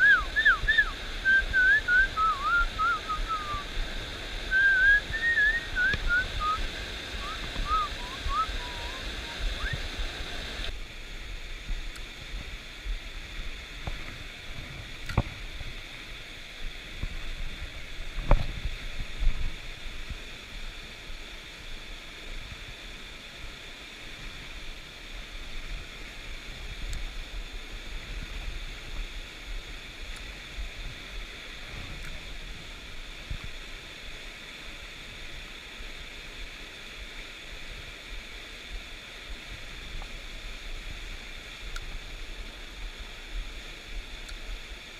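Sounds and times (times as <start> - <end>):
stream water rushing: 0.0 - 44.9.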